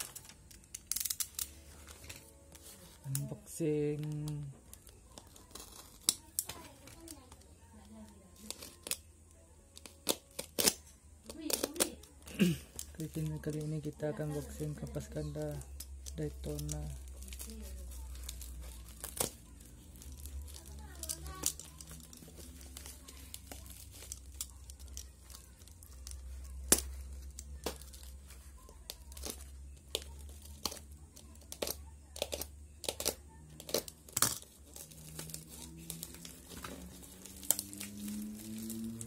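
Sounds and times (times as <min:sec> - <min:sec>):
packaging crinkling and tearing: 0:00.0 - 0:09.1, 0:09.8 - 0:39.0.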